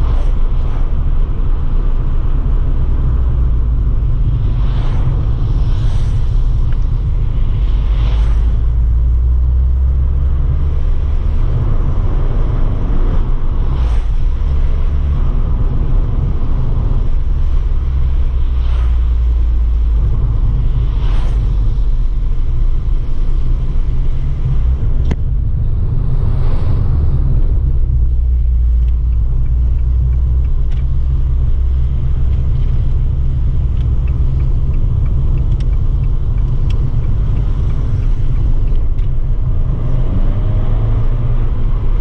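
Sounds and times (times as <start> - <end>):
car engine and exhaust rumble: 0.0 - 42.0
road noise: 0.0 - 42.0.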